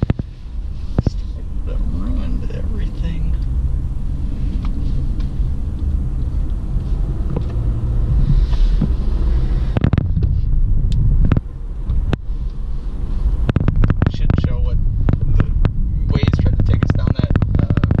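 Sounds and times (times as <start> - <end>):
car engine rumble: 0.0 - 18.0
tyres on road: 0.0 - 18.0.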